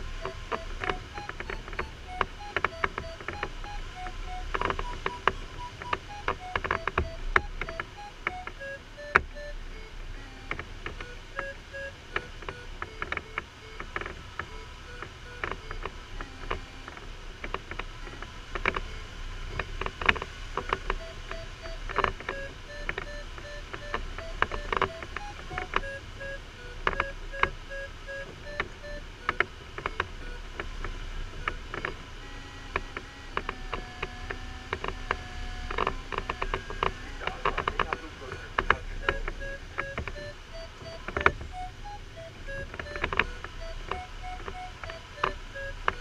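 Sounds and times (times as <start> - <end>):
ticks and knocks: 0.0 - 9.4, 10.4 - 32.0, 32.7 - 46.0
variometer beeping: 0.0 - 46.0.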